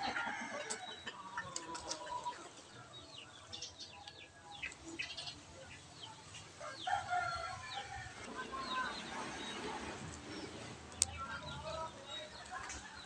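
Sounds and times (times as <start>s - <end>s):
birds chirping: 0.0s - 13.0s
chicken clucking: 0.0s - 13.0s.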